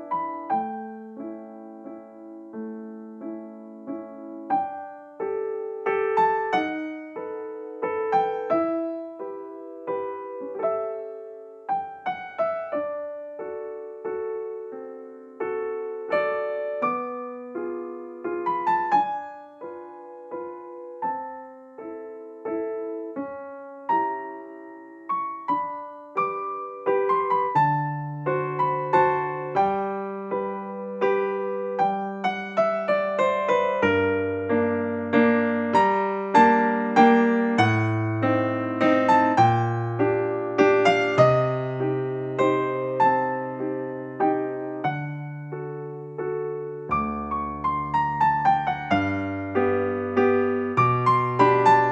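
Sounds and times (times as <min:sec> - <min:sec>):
slow gentle piano melody: 0:00.0 - 0:51.9.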